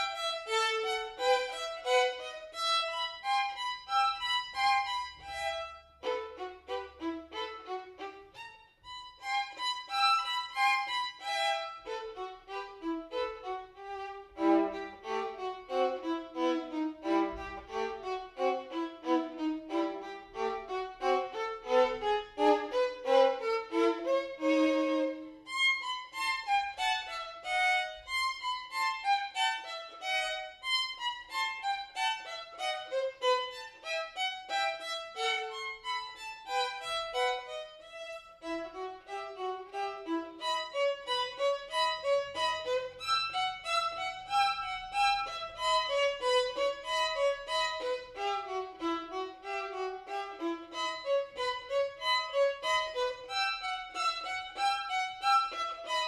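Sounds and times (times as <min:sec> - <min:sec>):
violin playing quick runs: 0:00.0 - 0:56.0.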